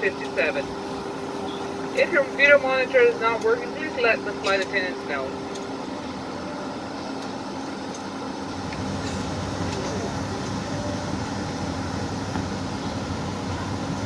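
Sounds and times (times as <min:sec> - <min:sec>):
ventilation air: 0:00.0 - 0:14.0.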